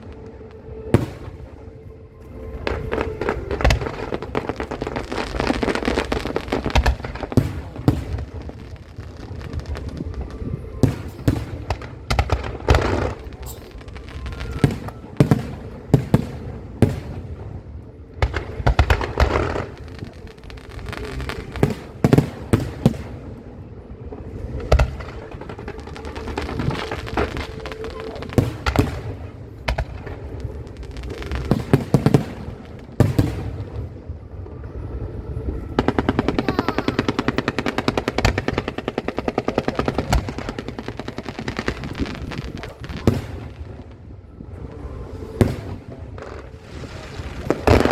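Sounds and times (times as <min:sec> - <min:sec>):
fireworks exploding: 0:00.0 - 0:47.9.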